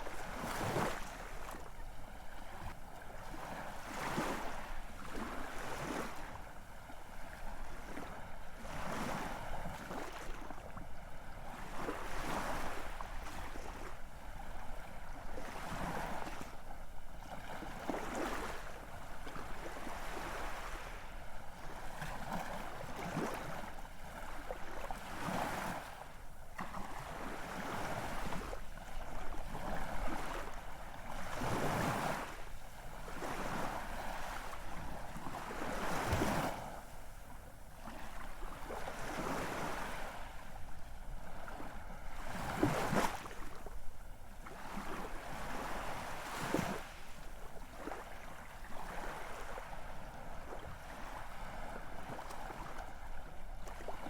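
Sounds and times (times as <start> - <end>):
waves breaking on shore: 0.0 - 6.5, 17.2 - 54.0.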